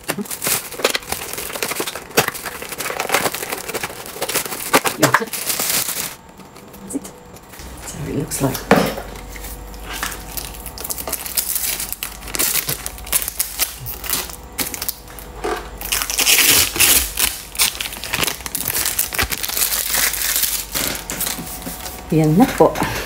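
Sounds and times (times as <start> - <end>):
plastic film crinkling: 0.0 - 6.9, 9.2 - 22.5.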